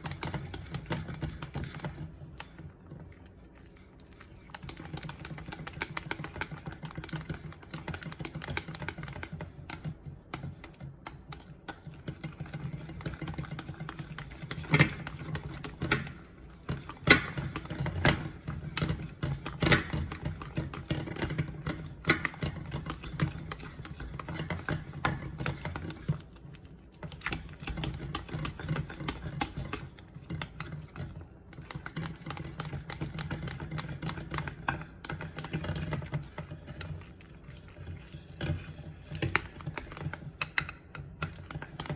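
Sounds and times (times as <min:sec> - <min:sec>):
kitchen utensils clicking and tapping: 0:04.5 - 0:26.3, 0:27.0 - 0:41.9.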